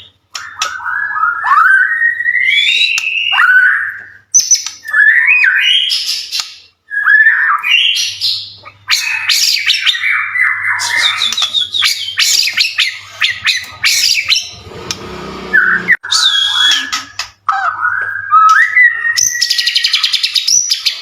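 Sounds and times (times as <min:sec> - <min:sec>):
songbird singing whistles and chirps: 0:00.0 - 0:14.7, 0:15.5 - 0:21.0.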